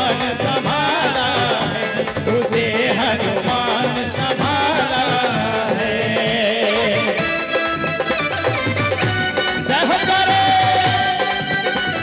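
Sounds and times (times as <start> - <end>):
man singing: 0.0 - 8.6, 9.2 - 12.0
drum rhythm: 0.0 - 12.0
harmonium: 0.0 - 12.0.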